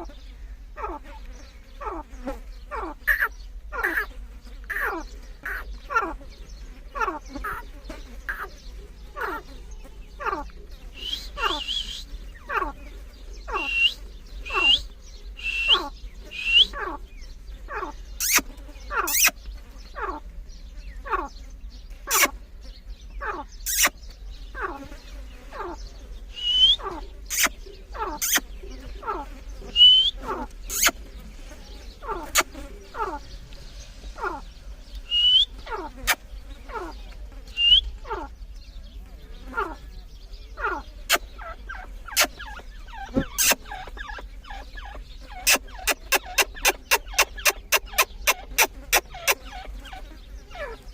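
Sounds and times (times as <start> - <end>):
francolins calling: 0.0 - 50.9.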